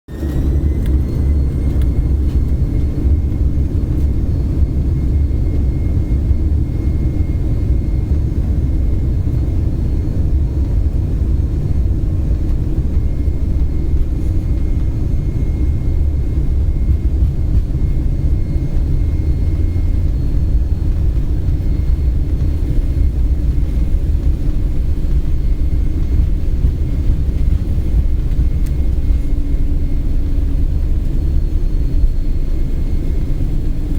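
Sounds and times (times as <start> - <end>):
high engine whine: 0.1 - 33.9
jet airliner taking off: 0.1 - 33.9.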